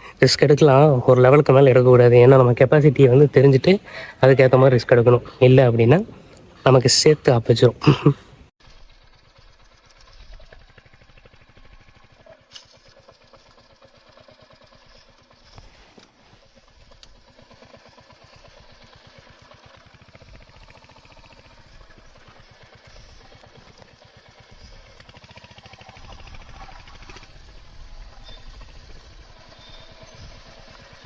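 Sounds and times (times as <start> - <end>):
motorcycle engine idling: 0.0 - 8.0, 8.7 - 31.0.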